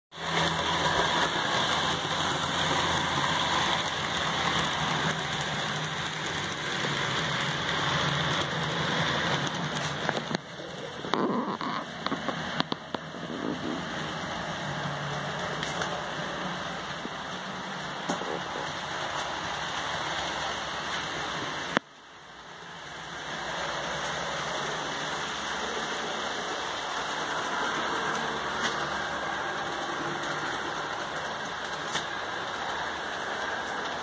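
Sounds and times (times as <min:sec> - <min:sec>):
model train wheels rumbling: 0:00.1 - 0:34.0
scattered track clicks: 0:00.1 - 0:34.0.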